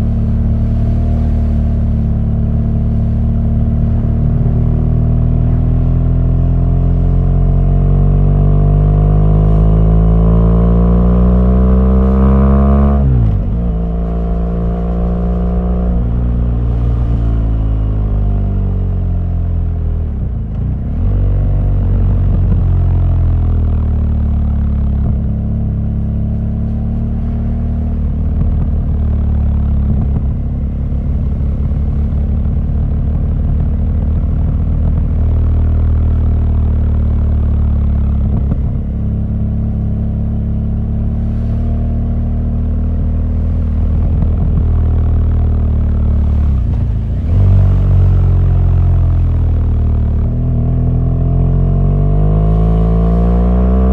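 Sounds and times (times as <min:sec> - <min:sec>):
motorcycle engine running: 0:08.2 - 0:53.9.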